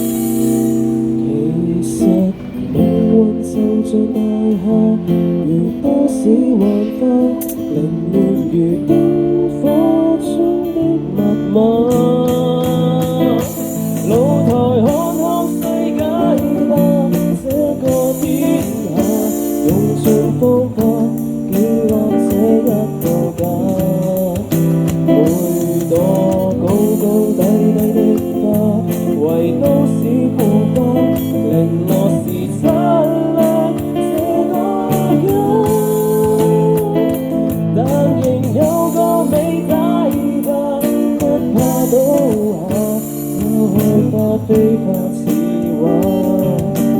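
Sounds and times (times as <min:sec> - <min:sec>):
guitar accompaniment: 0:00.0 - 0:46.9
person singing: 0:00.0 - 0:46.9.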